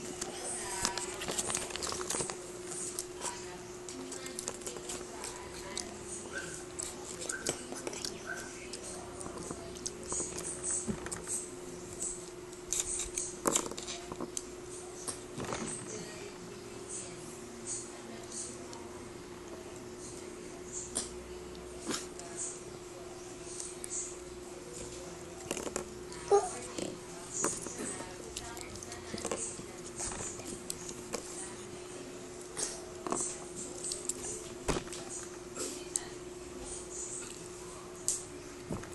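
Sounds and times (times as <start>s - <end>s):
steady hum: 0.0s - 38.9s.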